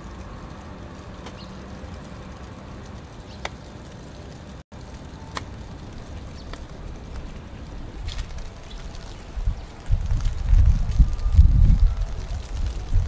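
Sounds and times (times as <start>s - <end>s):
low-pitched background noise: 0.0s - 13.0s.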